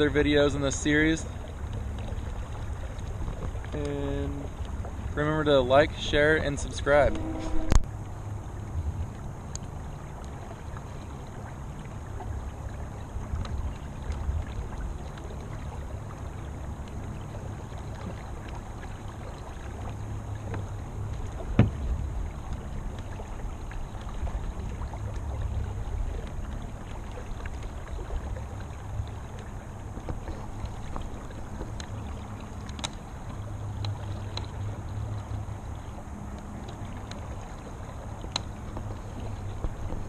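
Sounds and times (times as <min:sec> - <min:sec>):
water and wind against hull: 0:00.0 - 0:40.0.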